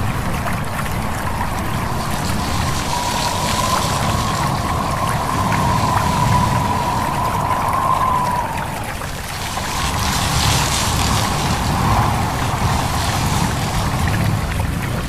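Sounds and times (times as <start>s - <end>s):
stream babbling: 0.0s - 15.0s
wind rushing: 0.0s - 15.0s
thin high tone: 1.0s - 13.8s.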